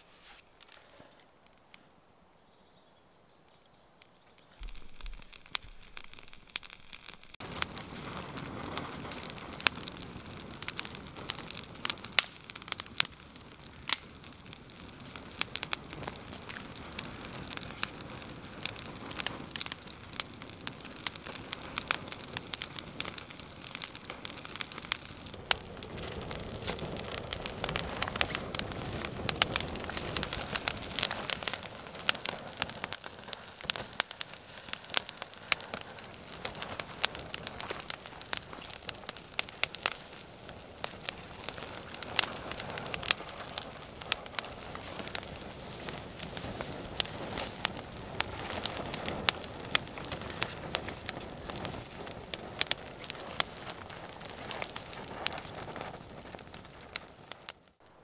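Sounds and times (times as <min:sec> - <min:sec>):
fire hissing: 0:00.0 - 0:02.0, 0:04.4 - 0:58.0
twigs crackling and popping in fire: 0:00.1 - 0:02.1, 0:03.6 - 0:58.0.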